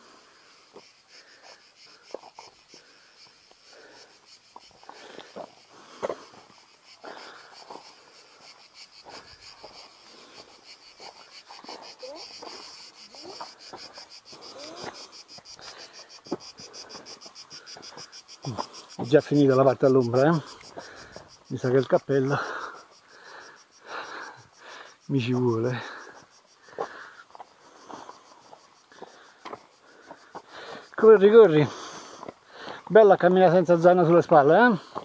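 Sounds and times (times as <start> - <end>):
insects chirring: 0.0 - 35.0
footsteps on stony trail: 0.7 - 22.6, 25.8 - 35.0.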